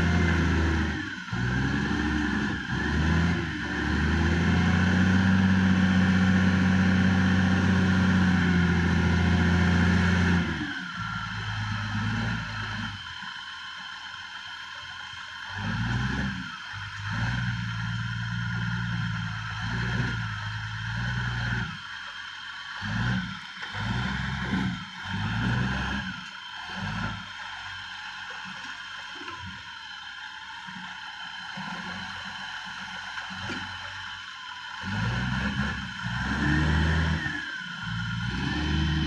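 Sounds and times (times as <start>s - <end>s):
heavy diesel engine running: 0.0s - 39.0s
high-pitched whine: 0.0s - 39.0s.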